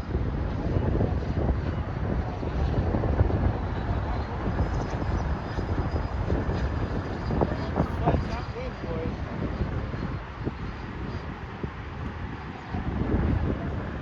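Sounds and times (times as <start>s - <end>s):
electric ducted fan whine: 0.0s - 14.0s
wind buffeting on microphone: 0.0s - 14.0s.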